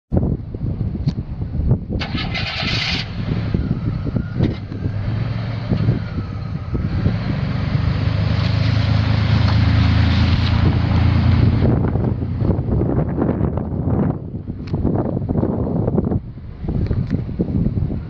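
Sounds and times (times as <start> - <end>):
truck engine idling and revving: 0.2 - 18.0.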